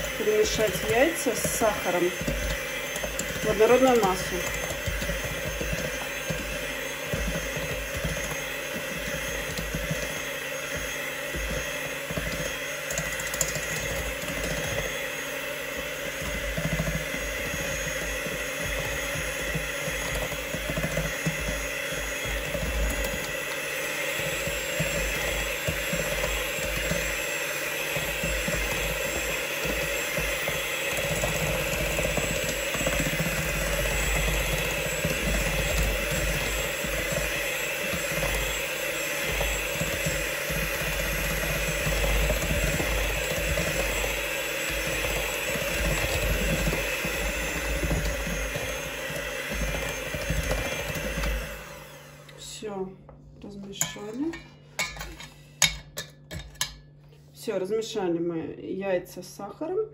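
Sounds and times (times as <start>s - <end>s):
hand mixer whisking: 0.0s - 52.8s, 53.8s - 56.8s.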